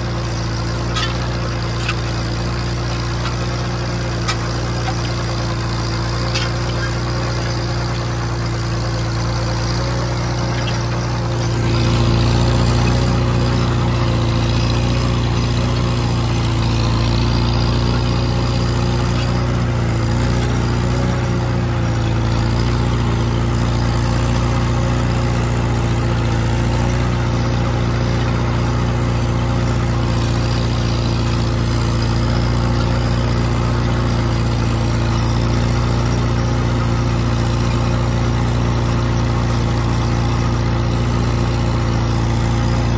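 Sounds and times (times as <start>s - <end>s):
tractor engine under load: 0.0s - 42.9s.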